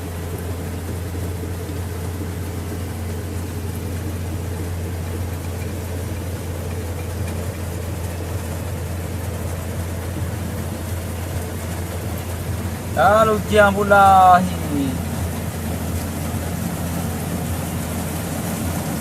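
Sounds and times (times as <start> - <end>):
heavy rain hissing: 0.0 - 19.0
lorry engine idling: 0.0 - 19.0.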